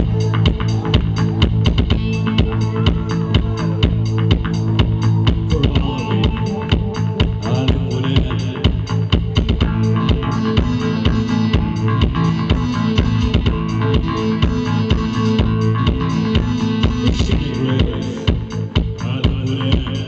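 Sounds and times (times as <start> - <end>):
drum kit beat: 0.0 - 20.0
live band music: 0.0 - 20.0.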